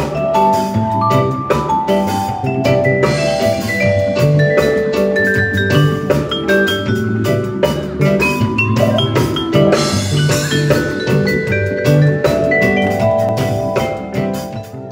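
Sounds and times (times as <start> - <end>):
bass guitar: 0.0 - 14.9
drum kit beat: 0.0 - 14.9
electric guitar: 0.0 - 14.9
vibraphone notes: 0.0 - 14.9.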